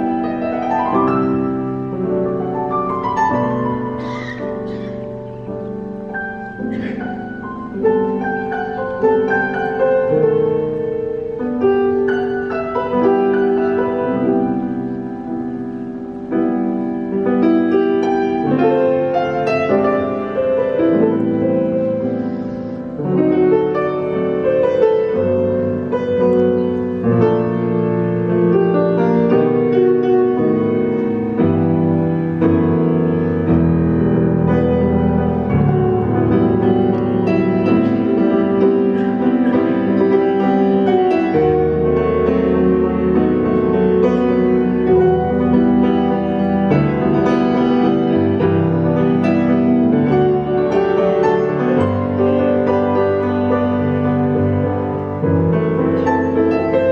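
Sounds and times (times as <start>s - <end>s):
solo piano improvisation: 0.0s - 56.9s.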